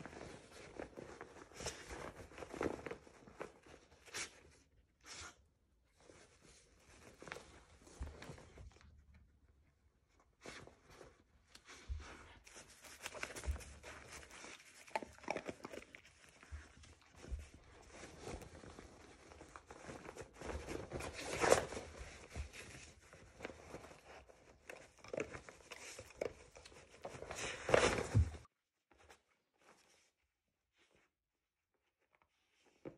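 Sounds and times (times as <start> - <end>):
fabric rustling and crinkling: 0.0 - 4.6, 5.9 - 30.1.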